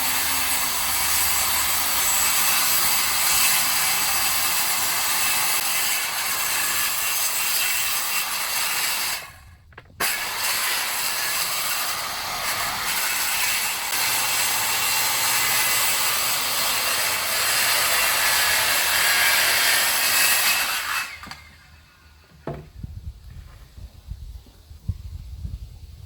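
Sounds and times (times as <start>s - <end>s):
power saw cutting wood: 0.0s - 9.4s, 10.0s - 21.7s.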